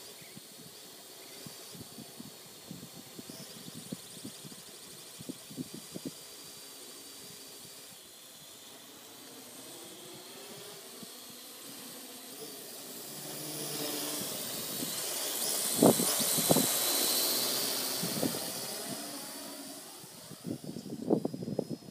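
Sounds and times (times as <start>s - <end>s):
quadcopter propellers whining: 0.0s - 21.9s.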